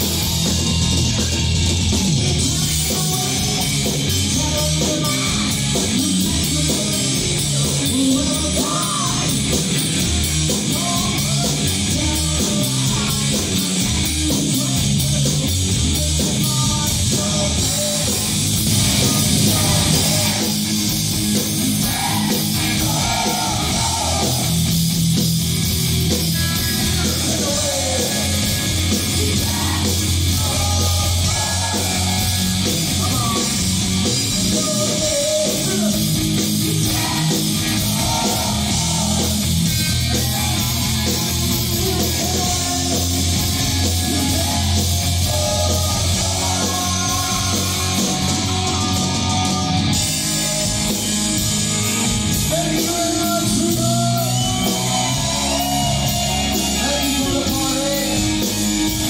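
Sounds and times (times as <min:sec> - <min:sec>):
heavy metal band playing live: 0:00.0 - 0:59.0
person singing: 0:02.1 - 0:20.8, 0:26.1 - 0:51.4, 0:52.5 - 0:59.0.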